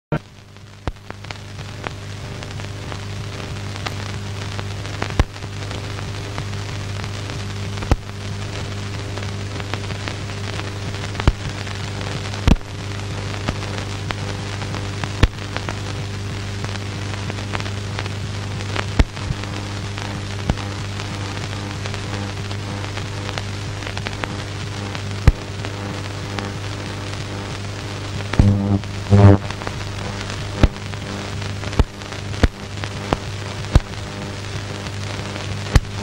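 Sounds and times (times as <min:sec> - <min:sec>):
crackles and sharp pops: 0:00.1 - 0:36.0.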